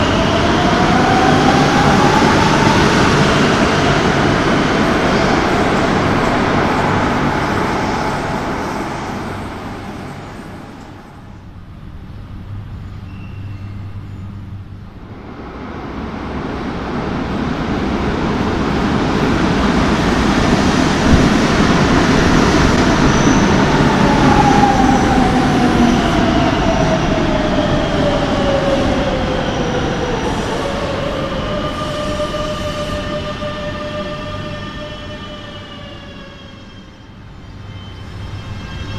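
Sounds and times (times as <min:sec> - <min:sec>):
train running: 0:00.0 - 0:38.9.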